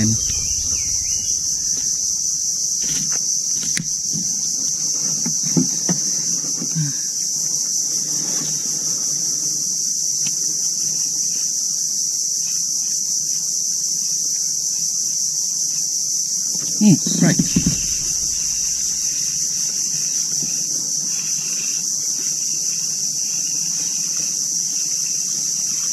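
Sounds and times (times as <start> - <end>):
high-pitched insect chorus: 0.0 - 25.9.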